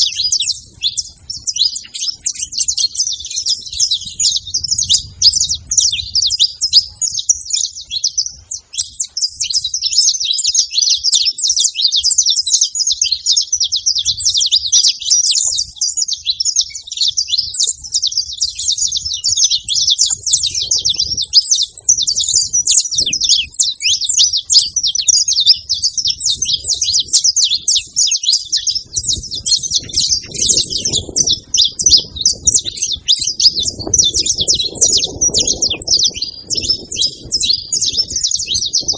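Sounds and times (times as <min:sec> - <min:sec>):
flock of finches chirping: 0:00.0 - 0:38.9.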